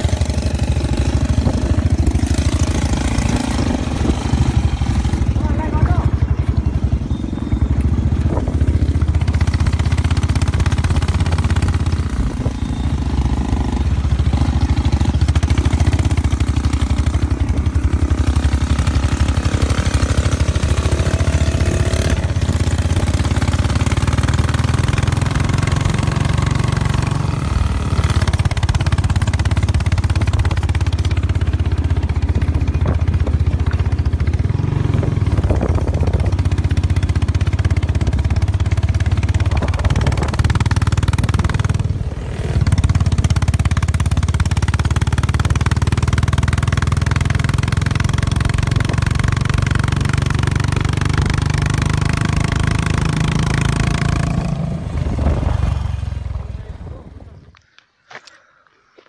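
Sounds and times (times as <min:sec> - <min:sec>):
motorcycle engine running: 0:00.0 - 0:57.6.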